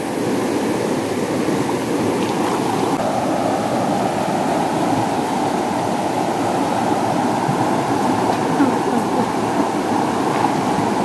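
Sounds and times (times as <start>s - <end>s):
river water rushing over weir: 0.0s - 11.0s.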